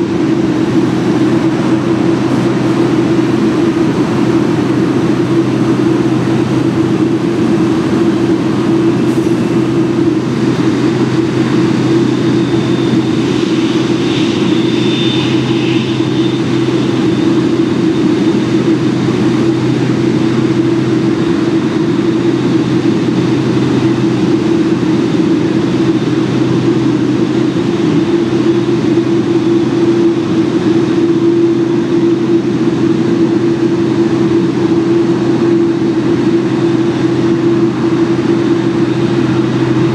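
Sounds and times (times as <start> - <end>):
steady engine drone: 0.0 - 39.9.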